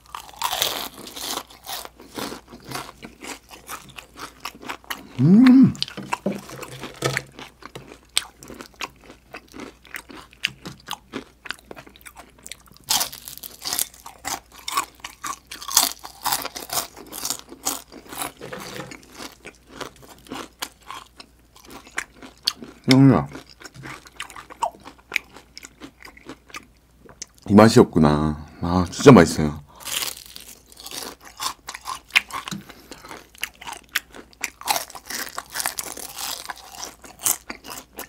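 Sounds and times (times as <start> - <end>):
crunchy chewing: 0.0 - 27.4, 29.7 - 38.0.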